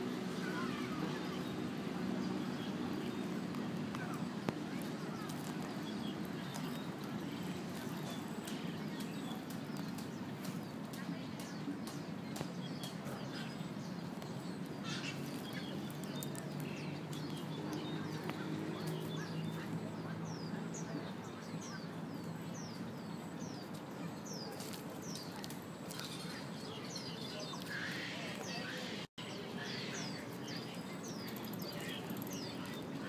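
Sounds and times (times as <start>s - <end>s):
hum of distant voices: 0.0s - 33.0s.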